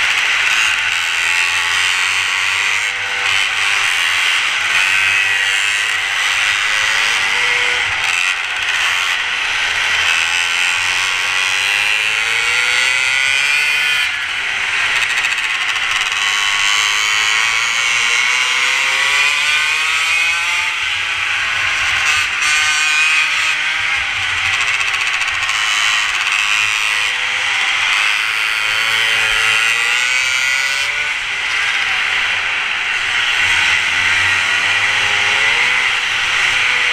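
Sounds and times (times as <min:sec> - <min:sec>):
mini motorbike engines revving: 0:00.0 - 0:36.9.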